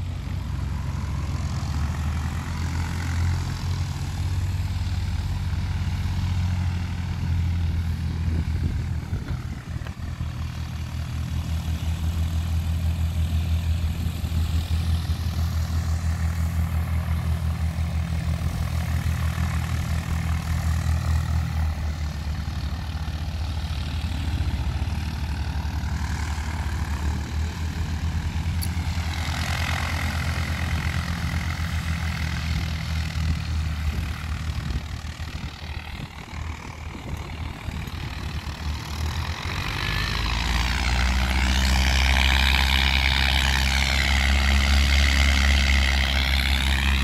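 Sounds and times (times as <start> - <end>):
light aircraft engine drone: 0.0 - 47.0
wavering propeller whine: 0.0 - 47.0.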